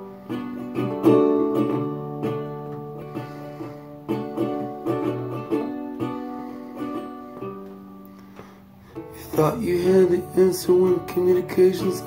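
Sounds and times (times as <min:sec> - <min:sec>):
acoustic string instrument chords: 0:00.0 - 0:12.0.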